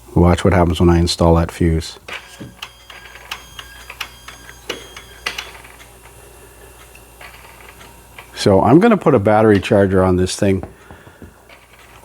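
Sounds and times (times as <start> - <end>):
faint electrical buzz: 0.0 - 12.0.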